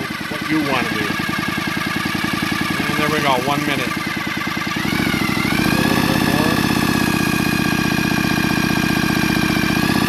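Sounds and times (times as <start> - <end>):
engine turning over pulsing: 0.0 - 10.0
power tool motor whine: 0.0 - 10.0.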